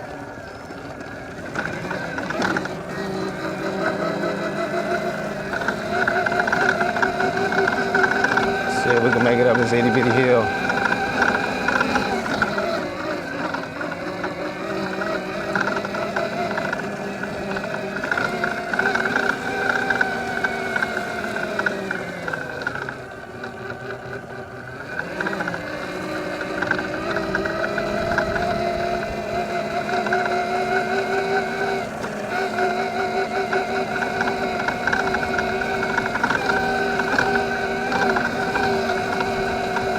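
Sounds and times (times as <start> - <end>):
drivetrain noise: 0.0 - 39.9
electric motor whining: 0.0 - 39.9.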